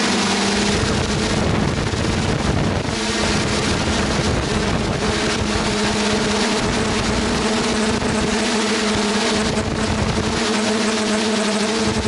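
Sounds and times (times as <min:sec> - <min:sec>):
air rushing: 0:00.0 - 0:11.2
drone motors humming: 0:00.0 - 0:12.0.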